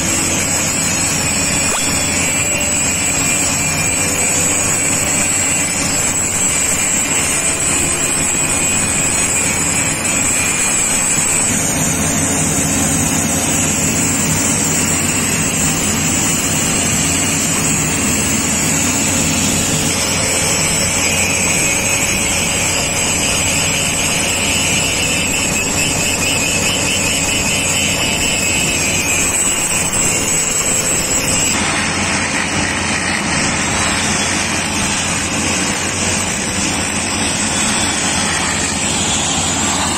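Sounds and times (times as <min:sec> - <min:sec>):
angle grinder grinding steel: 0:00.0 - 0:39.9
rail grinder grinding stone on rail: 0:00.0 - 0:39.9.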